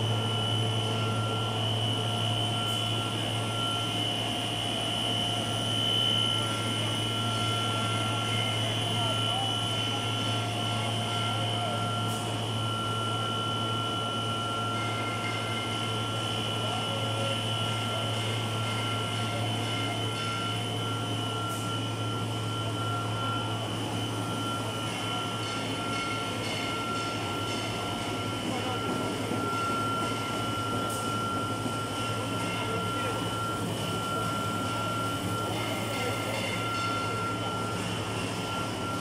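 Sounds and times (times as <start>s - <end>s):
high-pitched machine whine: 0.0s - 39.0s
machinery hum and drone: 0.0s - 39.0s.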